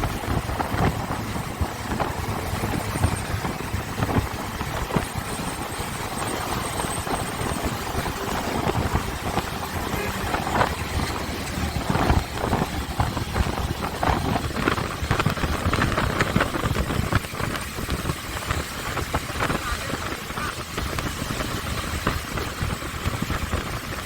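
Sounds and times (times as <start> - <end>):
motorcycle engine running: 0.0 - 24.0
wind buffeting: 0.0 - 24.0.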